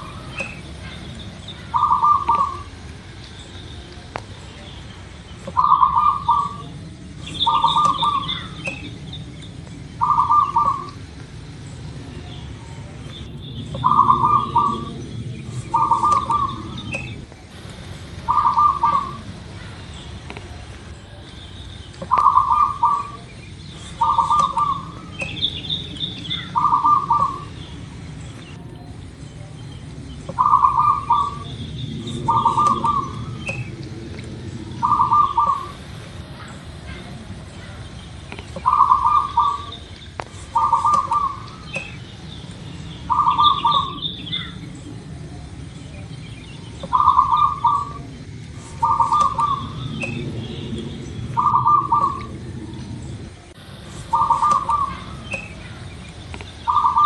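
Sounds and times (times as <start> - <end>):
dove cooing: 0.0 - 4.2, 5.4 - 21.4, 22.0 - 56.0, 56.6 - 57.0.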